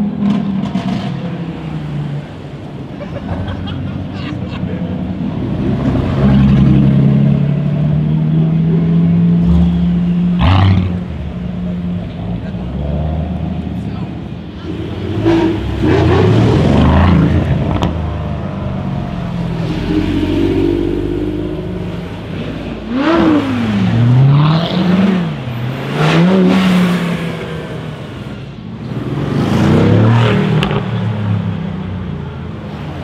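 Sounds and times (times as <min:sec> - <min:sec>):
sports car engines revving: 0:00.0 - 0:33.0.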